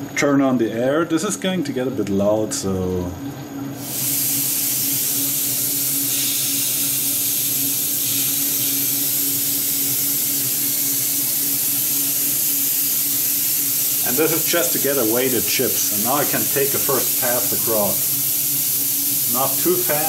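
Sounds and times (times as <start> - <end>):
lathe humming: 0.8 - 20.0
compressed air hissing: 3.8 - 20.0.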